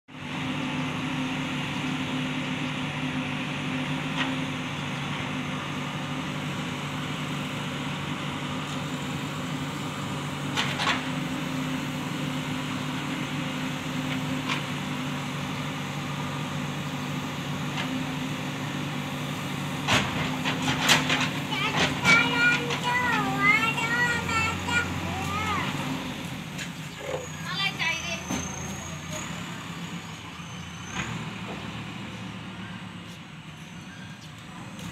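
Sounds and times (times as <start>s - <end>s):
diesel engine humming: 0.1s - 34.9s.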